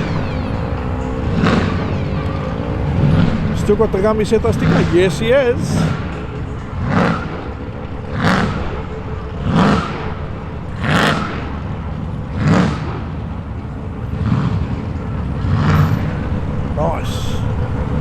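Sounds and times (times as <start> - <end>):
car engine idling: 0.0 - 18.0
engine revving: 0.0 - 18.0.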